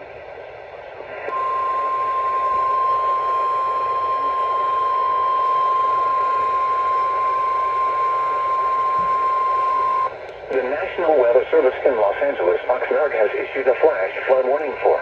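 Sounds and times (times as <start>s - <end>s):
radio hiss: 0.8s - 6.7s, 7.8s - 15.0s.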